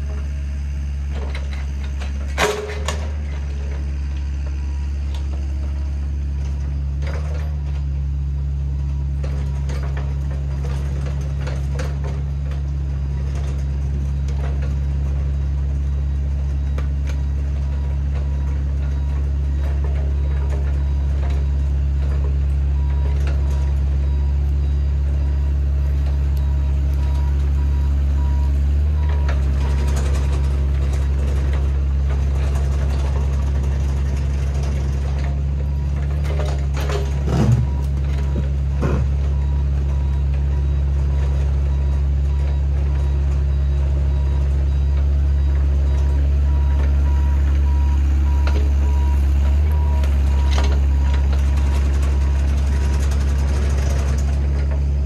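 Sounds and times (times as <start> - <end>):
motor running with low drone: 0.0 - 55.0.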